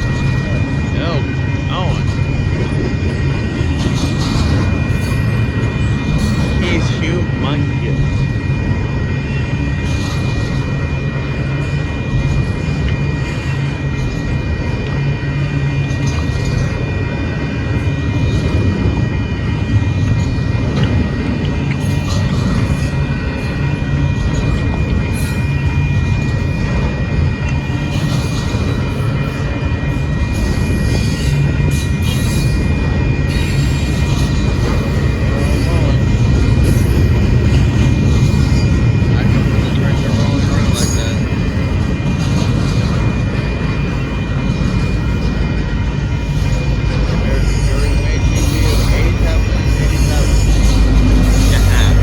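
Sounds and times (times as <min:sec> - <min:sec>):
freight train wheels rumbling on rail: 0:00.0 - 0:52.0
high-pitched whine: 0:00.0 - 0:52.0.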